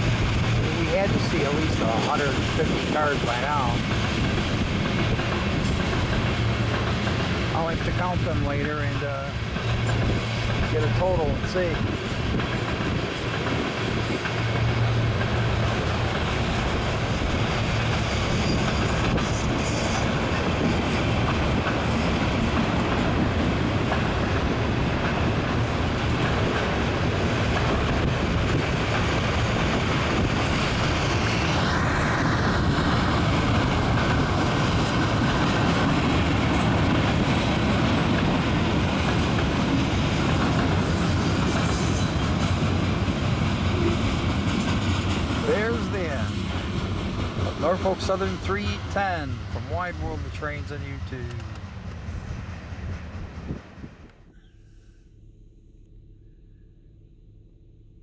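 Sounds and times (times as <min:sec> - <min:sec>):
train wheels on rails: 0:00.0 - 0:54.6.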